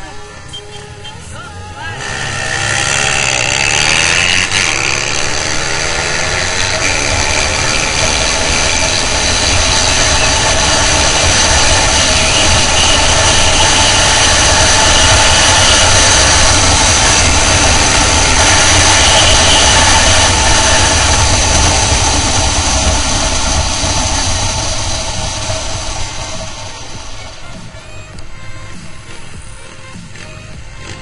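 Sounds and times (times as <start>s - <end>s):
motorcycle engine revving: 1.7s - 31.0s.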